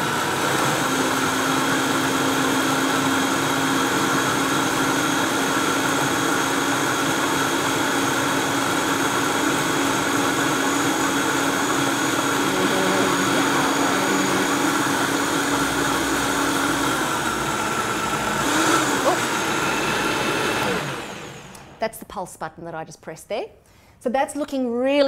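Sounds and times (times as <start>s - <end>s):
blender motor running: 0.0s - 21.8s.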